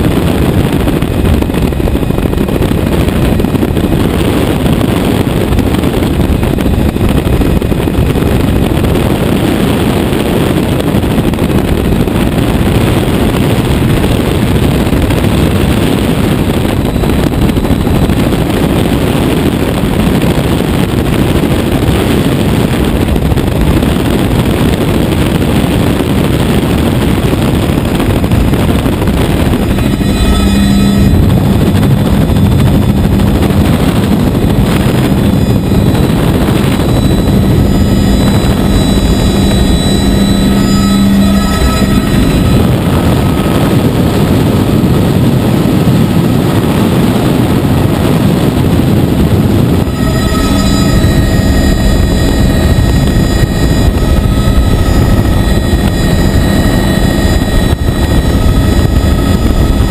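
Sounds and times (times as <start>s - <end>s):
helicopter rotor and engine: 0.0s - 59.9s
low hum: 0.0s - 59.9s.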